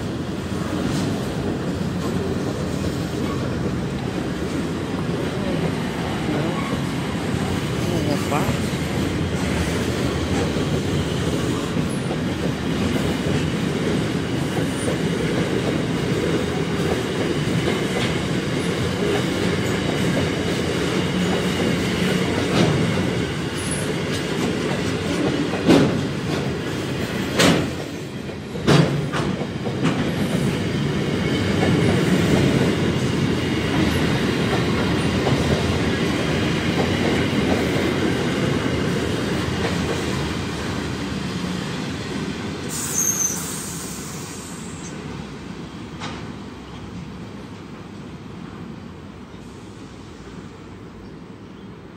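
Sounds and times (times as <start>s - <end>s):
train wheels on rails: 0.0s - 51.9s.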